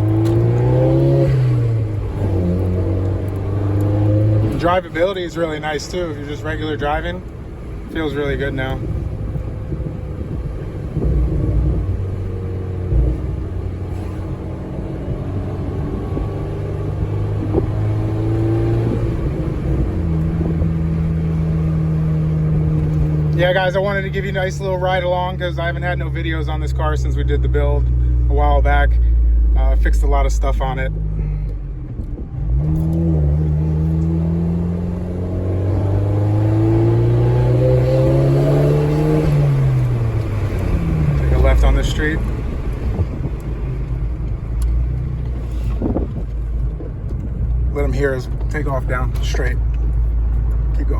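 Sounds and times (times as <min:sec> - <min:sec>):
car engine rumble from cabin: 0:00.0 - 0:50.9.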